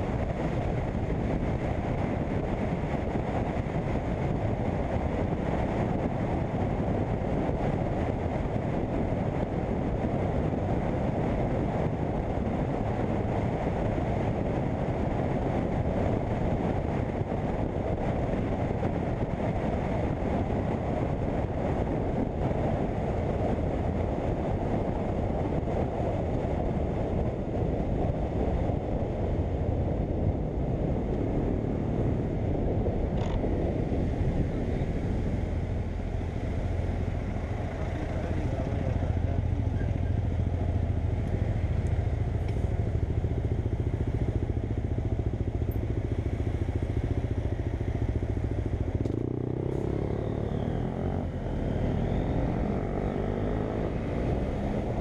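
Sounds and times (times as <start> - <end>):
motorcycle engine running: 0.0 - 55.0
road noise: 0.0 - 55.0
rushing wind: 0.0 - 55.0.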